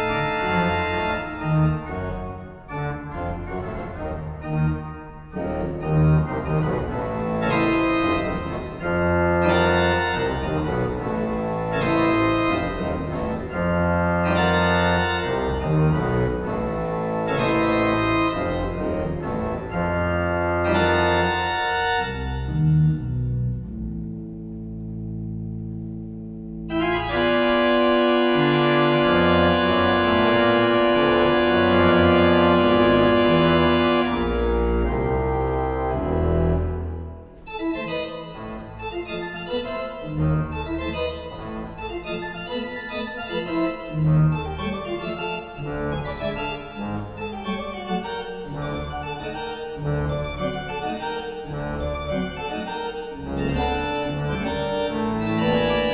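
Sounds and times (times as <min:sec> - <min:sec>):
pipe organ chords: 0:00.0 - 0:55.9.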